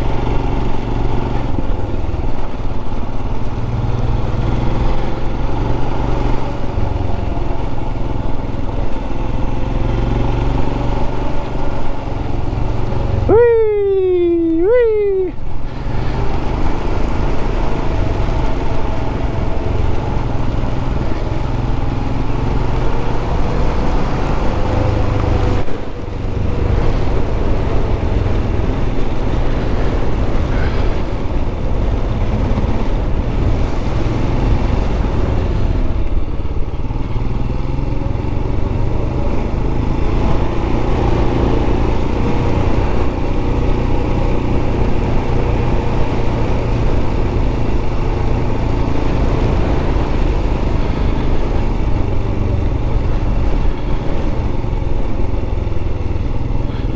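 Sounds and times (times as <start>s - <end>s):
low wind rumble: 0.0s - 13.4s, 14.3s - 56.9s
motorcycle engine running: 0.0s - 56.9s.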